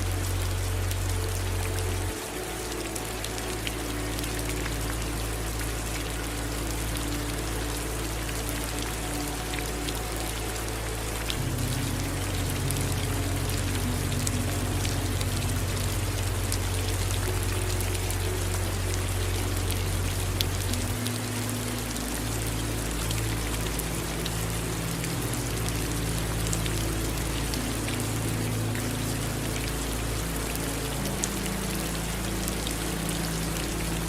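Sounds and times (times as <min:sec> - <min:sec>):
low rumble: 0:00.0 - 0:34.0
steady rainfall: 0:00.0 - 0:34.0.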